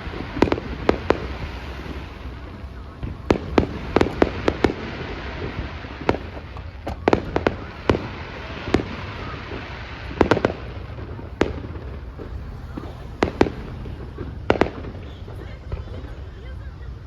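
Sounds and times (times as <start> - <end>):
firework shells bursting: 0.0 - 16.5
steady background noise: 0.0 - 17.0.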